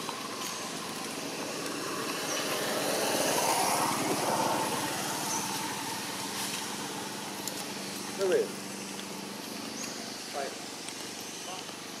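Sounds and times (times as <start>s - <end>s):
passing motor vehicle: 0.0s - 12.0s.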